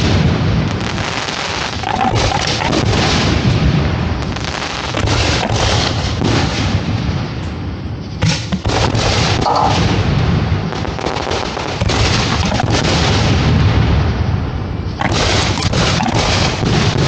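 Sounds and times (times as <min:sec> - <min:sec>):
fireworks booming and bursting: 0:00.0 - 0:17.0
sharp firework reports: 0:00.0 - 0:17.0.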